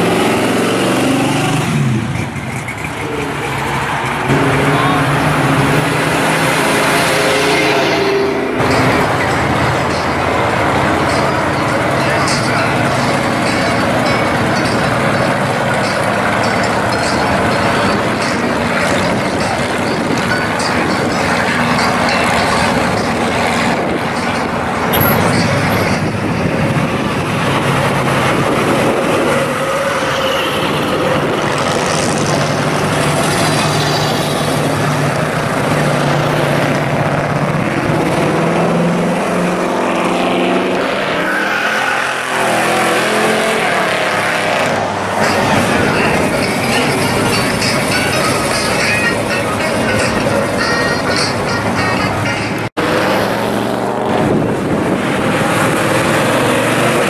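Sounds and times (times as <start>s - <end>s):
muscle car engines driving by: 0.0s - 57.0s.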